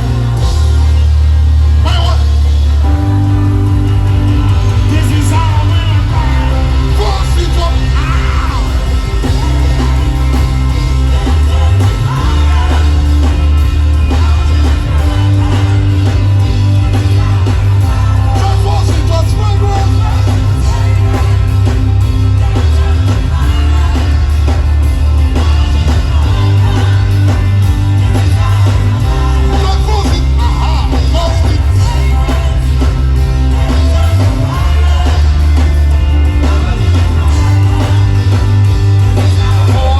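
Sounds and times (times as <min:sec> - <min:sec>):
gospel band playing: 0:00.0 - 0:39.9
voices singing: 0:00.0 - 0:39.9.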